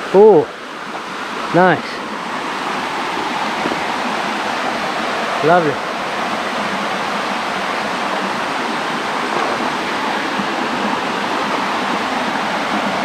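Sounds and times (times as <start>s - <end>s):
waterfall rushing over boulders: 0.0s - 13.0s.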